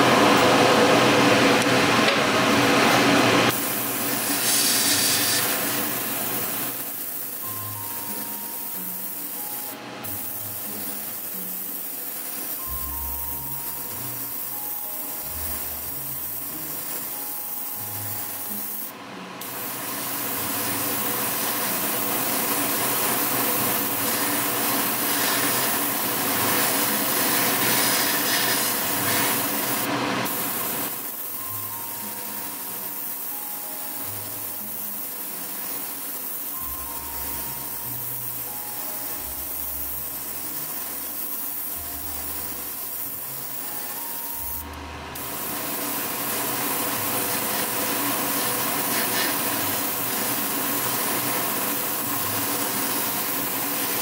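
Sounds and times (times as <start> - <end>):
airbrush hissing: 3.5 - 54.0
faint background music: 3.6 - 54.0.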